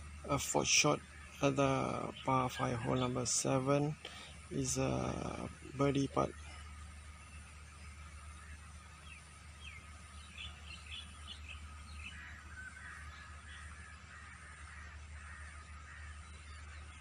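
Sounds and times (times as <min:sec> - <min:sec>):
birds chirping: 0:00.0 - 0:17.0
faint low hum: 0:00.0 - 0:17.0.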